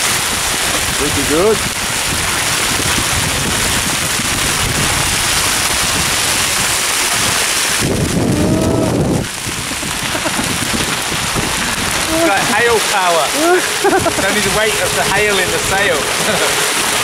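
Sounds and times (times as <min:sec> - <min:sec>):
deep rumble: 0:00.0 - 0:17.0
hail hissing on a boat: 0:00.0 - 0:17.0
wind buffeting microphone: 0:00.0 - 0:17.0.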